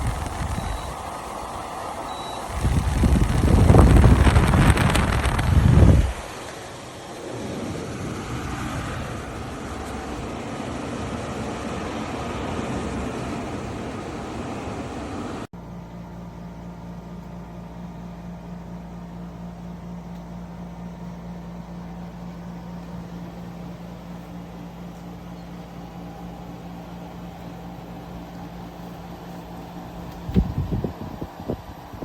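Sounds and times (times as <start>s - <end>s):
dehumidifier fan air rushing: 0.0s - 32.0s
dehumidifier humming: 0.0s - 32.0s.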